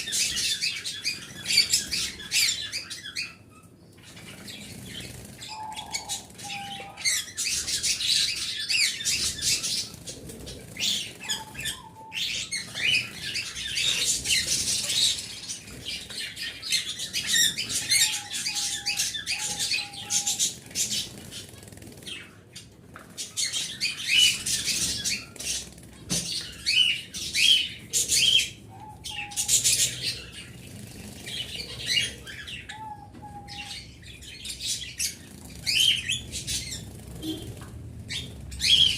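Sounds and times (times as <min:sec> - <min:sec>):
pet birds chirping: 0:00.0 - 0:38.9.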